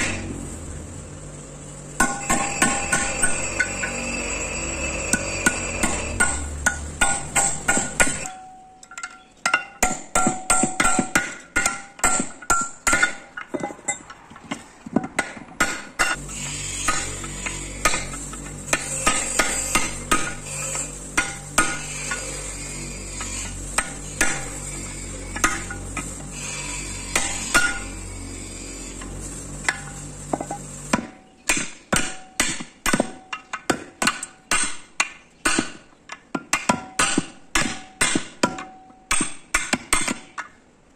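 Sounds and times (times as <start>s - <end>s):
hammer striking steel chisel: 2.0s - 14.0s, 15.0s - 22.5s, 23.1s - 24.7s, 25.3s - 26.2s, 26.9s - 28.0s, 29.6s - 40.5s.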